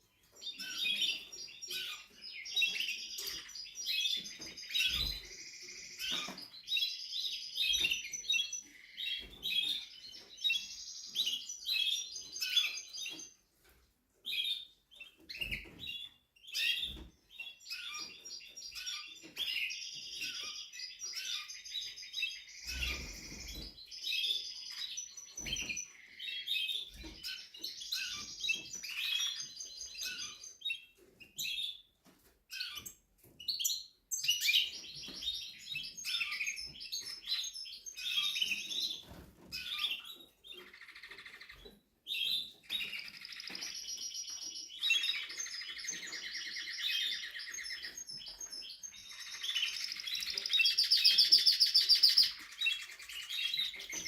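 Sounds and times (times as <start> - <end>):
canary singing trills: 0.0 - 13.4, 14.2 - 31.9, 32.5 - 54.0.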